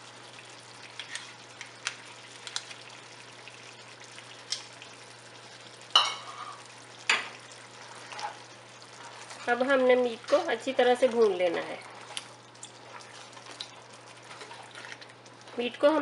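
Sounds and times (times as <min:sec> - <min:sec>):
meat sizzling in oil: 0:00.0 - 0:16.0.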